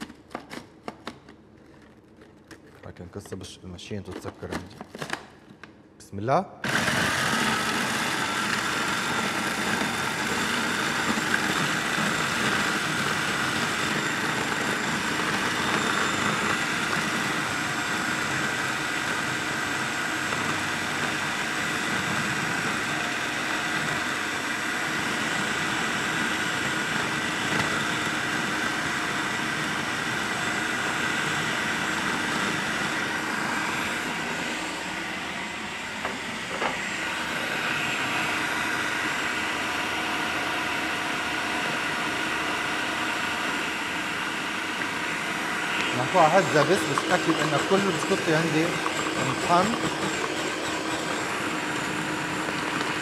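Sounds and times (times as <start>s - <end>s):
food processor motor whining: 0.0s - 2.8s, 6.6s - 53.0s.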